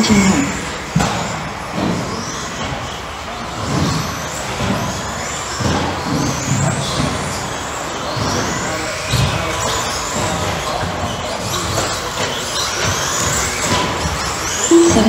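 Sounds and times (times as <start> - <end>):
electric rc car motors whining: 1.5 - 14.9.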